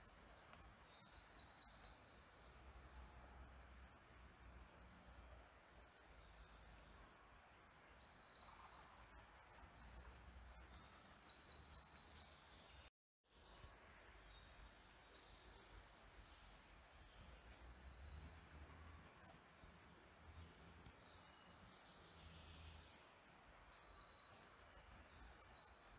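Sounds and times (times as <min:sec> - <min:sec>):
faint steady hiss: 0:00.0 - 0:25.9.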